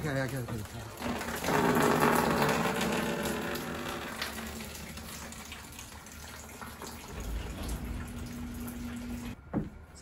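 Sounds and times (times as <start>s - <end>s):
water pouring and splashing: 0.0s - 9.4s.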